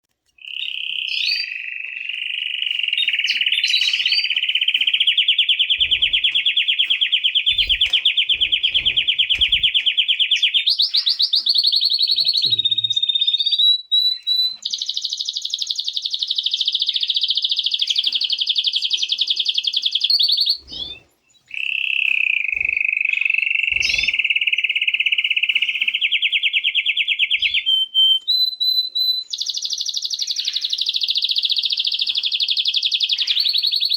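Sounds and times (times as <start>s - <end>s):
canary singing trills: 0.4s - 33.9s.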